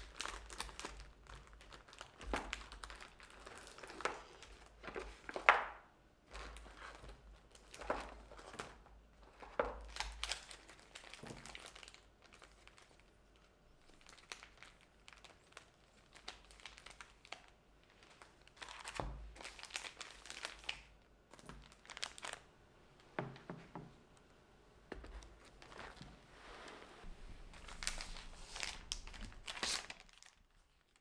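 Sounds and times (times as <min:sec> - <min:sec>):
paper crinkling and rustling: 0:00.0 - 0:22.5, 0:24.9 - 0:31.0.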